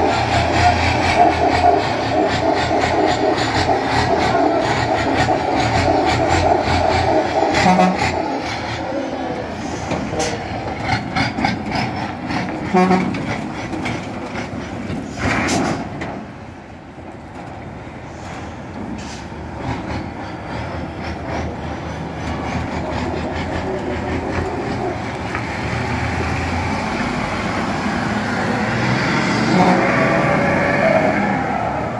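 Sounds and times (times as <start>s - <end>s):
diesel truck engine rumbling: 0.0s - 31.9s.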